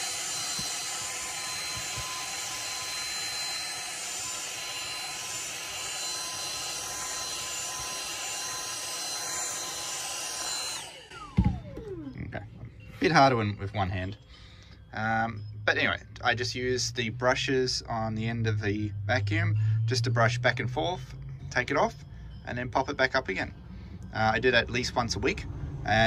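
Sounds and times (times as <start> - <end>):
motor winding down: 0.0 - 26.0
vacuum cleaner motor whine: 0.0 - 26.0.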